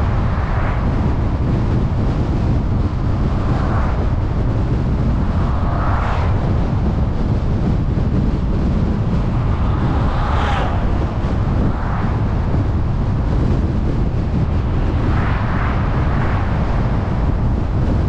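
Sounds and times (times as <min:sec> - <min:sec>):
car road and wind rumble: 0:00.0 - 0:18.0
rushing noise: 0:00.0 - 0:18.0.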